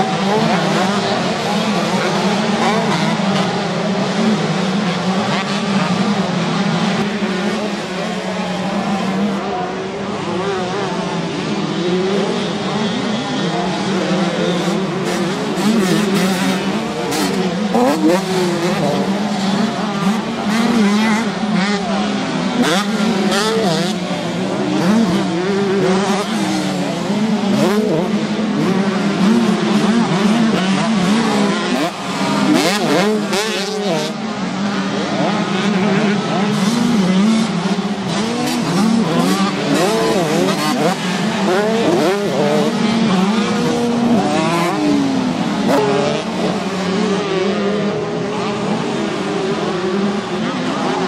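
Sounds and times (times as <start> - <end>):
motorbike engines revving: 0.0 - 51.0.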